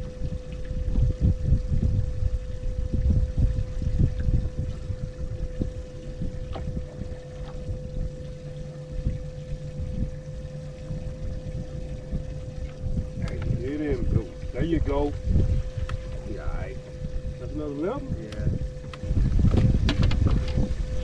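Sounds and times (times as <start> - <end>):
lower hum: 0.0 - 21.0
steady hum: 0.0 - 21.0
uneven low rumble: 0.0 - 21.0
water lapping against boat hull: 0.0 - 21.0.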